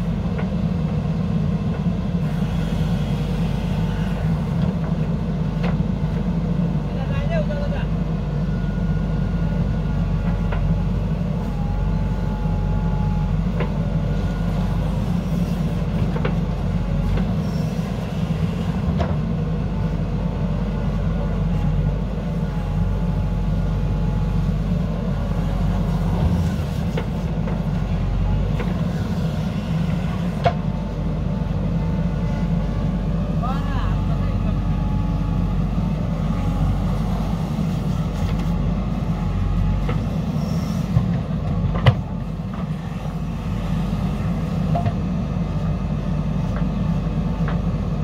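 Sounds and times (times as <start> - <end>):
diesel engine under load: 0.0 - 48.0.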